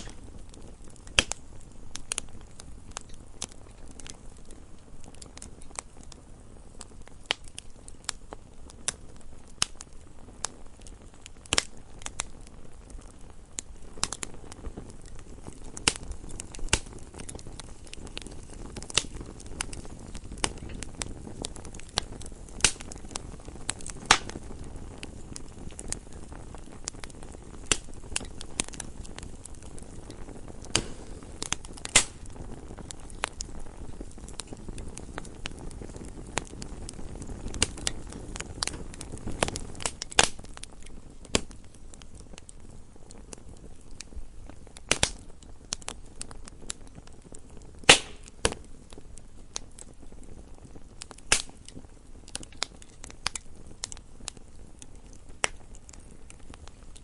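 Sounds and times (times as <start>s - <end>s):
rush of flame: 0.0s - 57.0s
wood fire crackling and popping: 0.0s - 57.0s.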